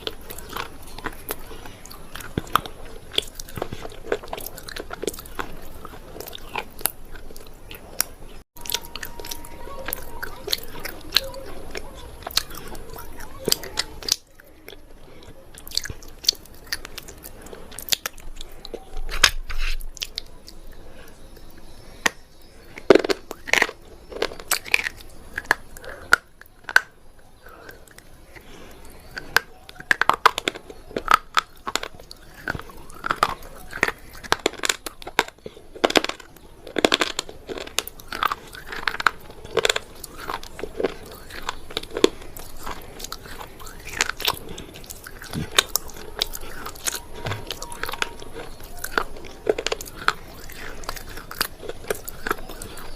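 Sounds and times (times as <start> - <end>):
dry crunching and chewing: 0.0 - 52.9.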